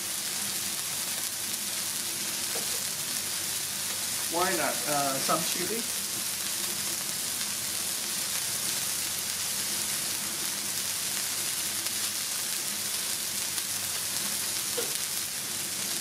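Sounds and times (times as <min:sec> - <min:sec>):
burger patties sizzling on griddle: 0:00.0 - 0:16.0.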